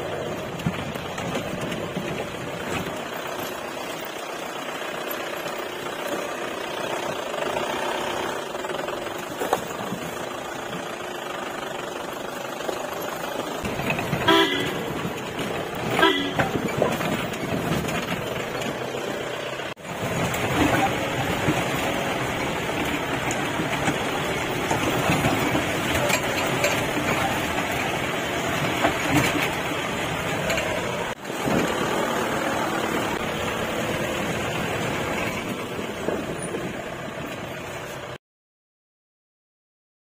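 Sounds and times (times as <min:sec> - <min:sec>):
vehicle engine and road noise: 0:00.0 - 0:38.2.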